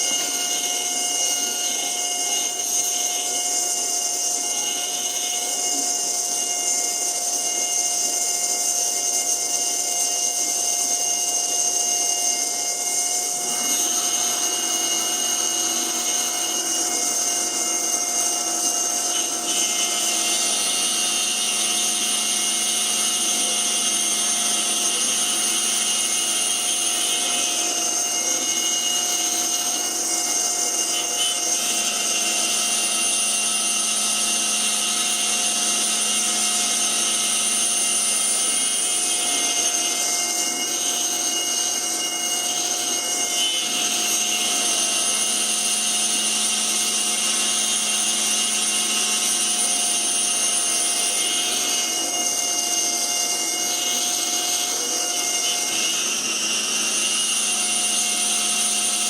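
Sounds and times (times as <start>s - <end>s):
router cutting wood: 0.0s - 59.0s
router spindle high whine: 0.0s - 59.0s.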